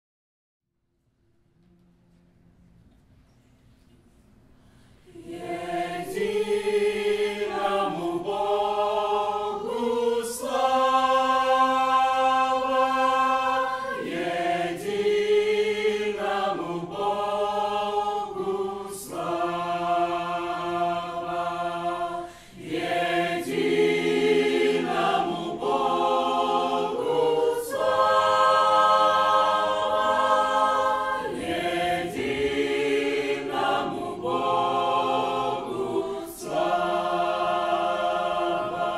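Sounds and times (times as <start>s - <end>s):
church choir singing a hymn: 5.0s - 38.9s.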